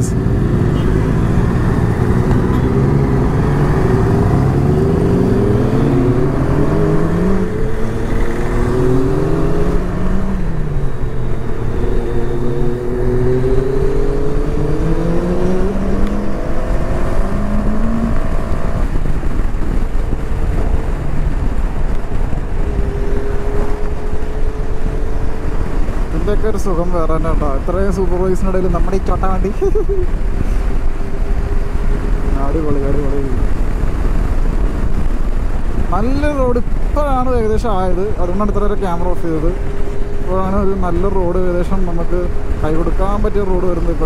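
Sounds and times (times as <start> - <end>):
motorcycle engines revving: 0.0 - 44.0
wind and road noise: 0.0 - 44.0.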